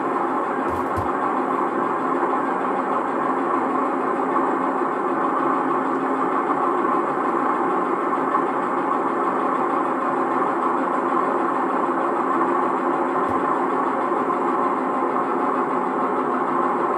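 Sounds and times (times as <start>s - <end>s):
diesel locomotive engine running: 0.0s - 16.9s.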